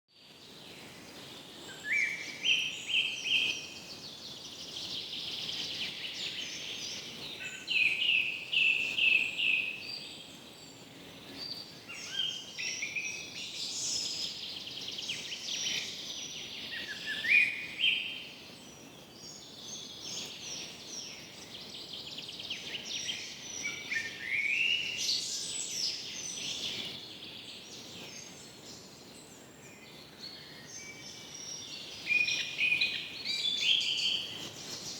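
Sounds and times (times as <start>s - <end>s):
birds singing and chirping: 0.2s - 34.9s.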